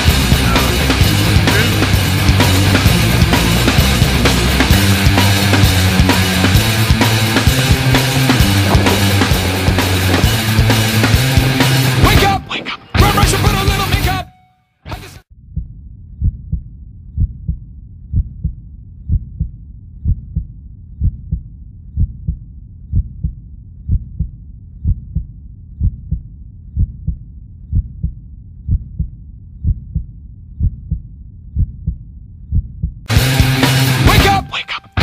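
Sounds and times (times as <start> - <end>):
heartbeat double thumps: 0.0 - 12.2, 15.4 - 33.6.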